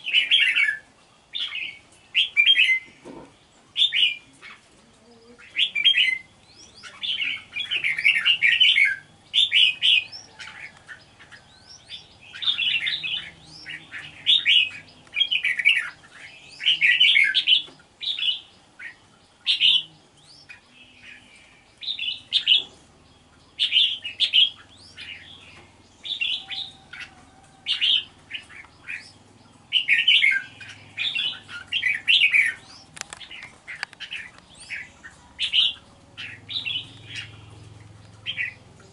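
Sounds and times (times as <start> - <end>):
bird singing warbling phrases: 0.0 - 38.9.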